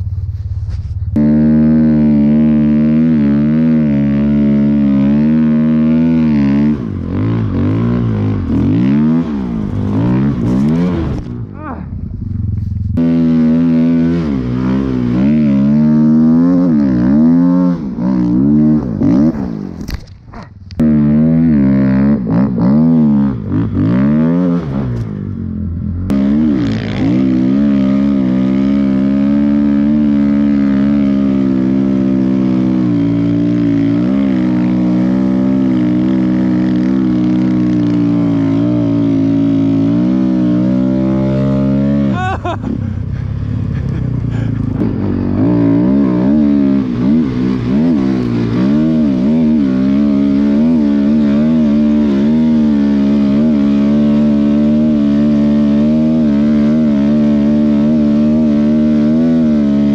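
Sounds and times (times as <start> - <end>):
dirt bike engine revving: 0.0 - 20.0, 20.8 - 59.9.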